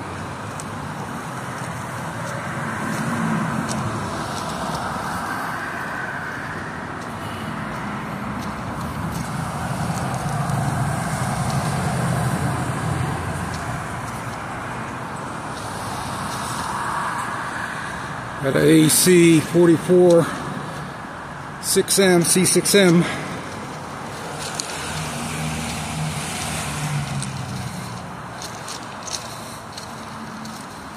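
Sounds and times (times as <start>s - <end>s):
diesel locomotives idling: 0.0s - 30.9s
road traffic: 0.0s - 30.9s.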